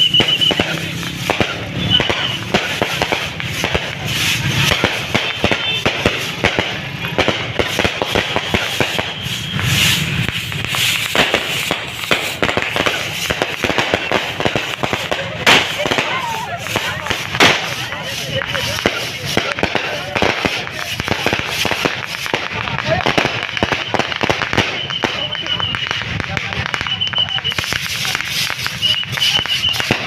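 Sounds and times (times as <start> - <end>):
fireworks cracking and popping: 0.0 - 30.0.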